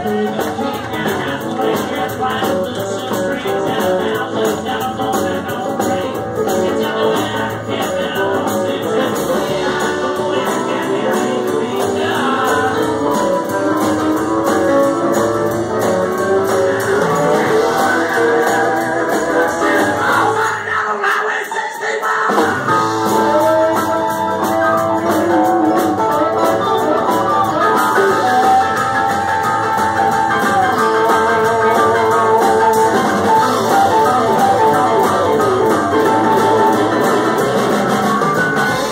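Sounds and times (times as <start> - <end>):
electric guitar: 0.0 - 20.7, 22.2 - 38.9
keyboard: 0.0 - 20.9, 22.3 - 38.9
drums: 0.0 - 38.9.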